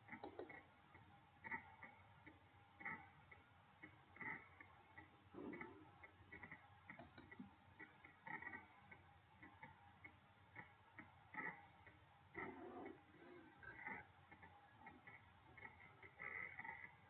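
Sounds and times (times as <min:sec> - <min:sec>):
faint clicking and tapping: 0:00.0 - 0:17.0.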